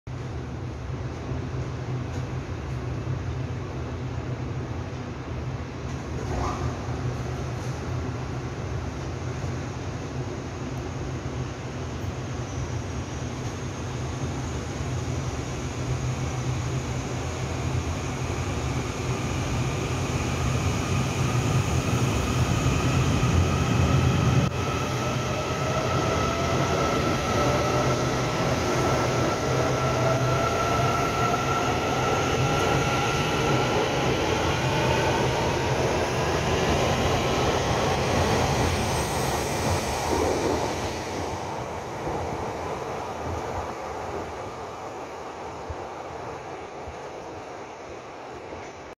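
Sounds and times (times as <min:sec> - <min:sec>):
train rumble: 0:00.1 - 0:49.0.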